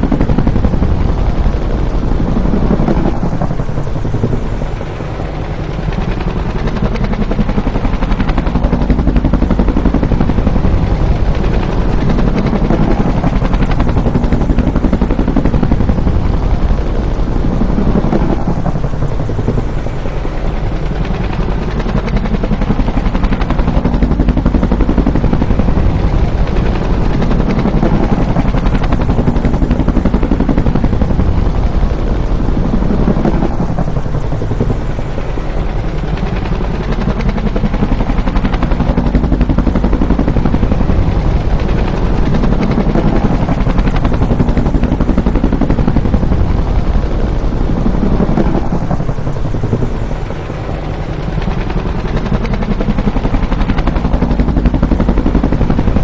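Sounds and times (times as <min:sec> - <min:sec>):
helicopter rotor chopping: 0:00.0 - 0:56.0
turbine roar: 0:00.0 - 0:56.0.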